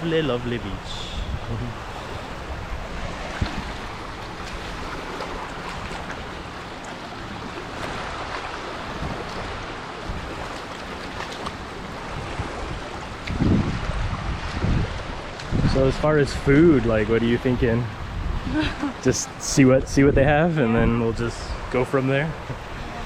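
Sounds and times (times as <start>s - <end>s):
wind on microphone: 0.0s - 6.5s, 7.3s - 19.0s, 19.6s - 23.0s
sea surf washing onto beach: 0.0s - 23.0s.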